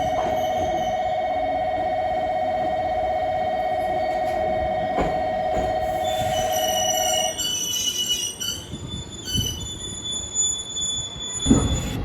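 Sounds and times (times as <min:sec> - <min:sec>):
train wheels squealing on rails: 0:00.0 - 0:01.5, 0:03.7 - 0:12.0.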